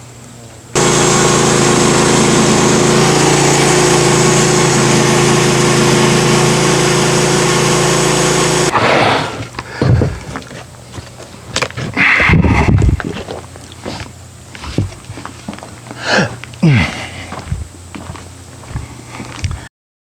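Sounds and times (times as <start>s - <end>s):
sawmill engine running: 0.7s - 19.7s.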